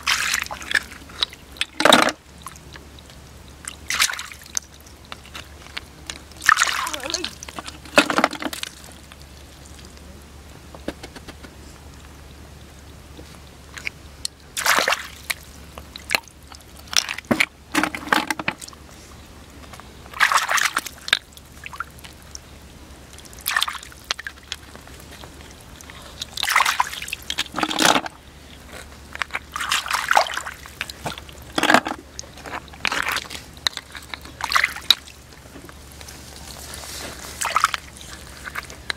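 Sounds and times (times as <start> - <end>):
shallow water sloshing and splashing: 0.0 - 10.0, 13.3 - 18.8, 20.1 - 38.9.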